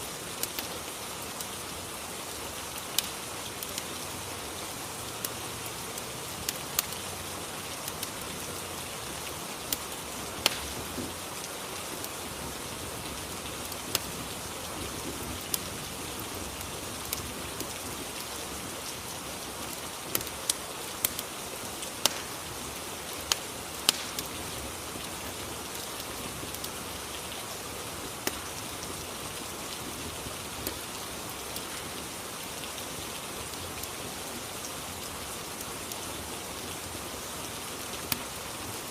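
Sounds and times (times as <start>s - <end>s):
rain hissing: 0.0s - 38.9s
wood fire crackling: 0.0s - 38.9s.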